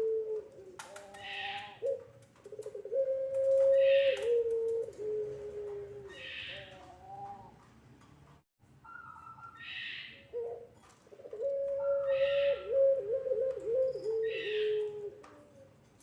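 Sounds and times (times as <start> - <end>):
dove cooing: 0.0 - 7.6, 8.9 - 15.8.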